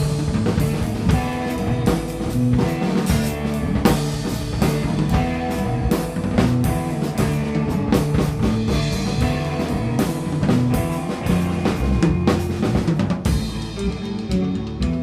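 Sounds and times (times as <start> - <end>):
drum kit beat: 0.0 - 15.0
rock band playing: 0.0 - 15.0.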